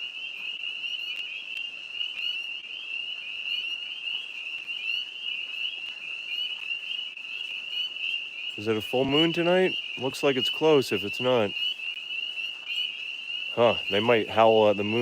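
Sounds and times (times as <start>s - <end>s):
tree frogs trilling: 0.0s - 15.0s.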